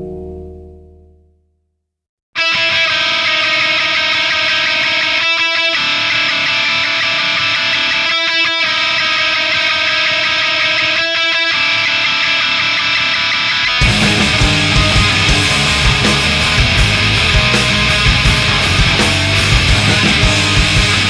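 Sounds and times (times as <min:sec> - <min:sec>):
electric guitar chords: 0:00.0 - 0:01.4, 0:02.4 - 0:21.0.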